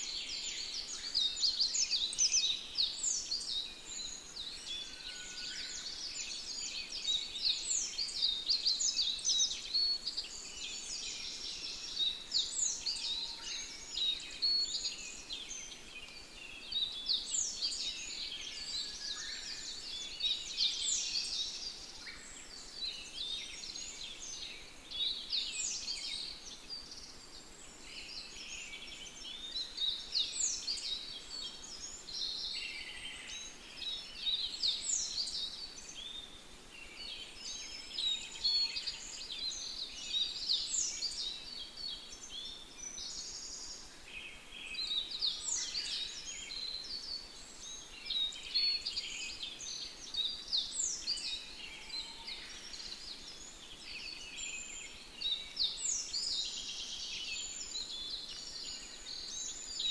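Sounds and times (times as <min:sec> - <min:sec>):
birds chirping in chorus: 0:00.0 - 0:59.9.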